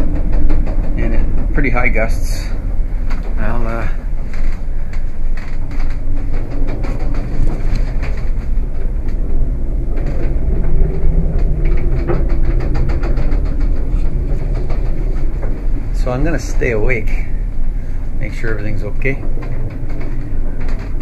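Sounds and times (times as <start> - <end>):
knocks and rattles: 0.0 - 21.0
strong wind buffeting: 0.0 - 21.0.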